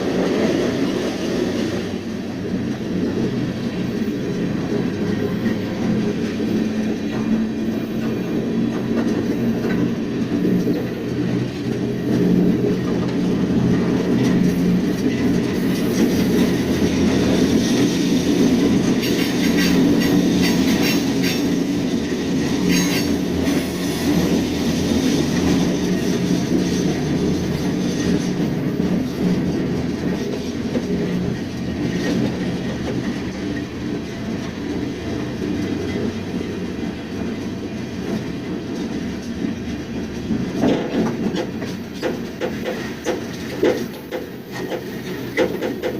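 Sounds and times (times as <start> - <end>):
train wheels rumbling: 0.0 - 45.9.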